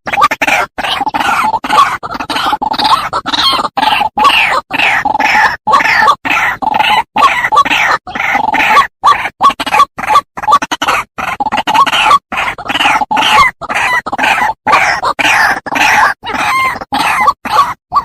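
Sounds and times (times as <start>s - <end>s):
bird harsh croaking calls: 0.0s - 18.0s.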